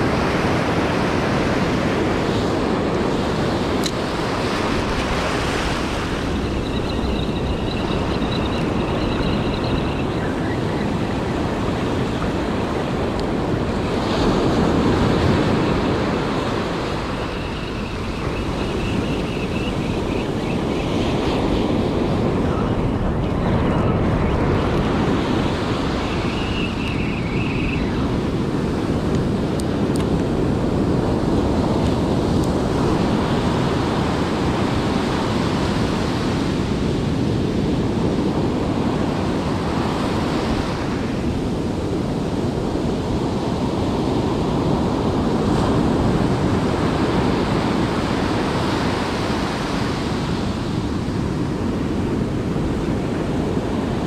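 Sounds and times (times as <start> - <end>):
ocean surf breaking on beach: 0.0 - 54.0
wind rumbling on microphone: 0.0 - 54.0.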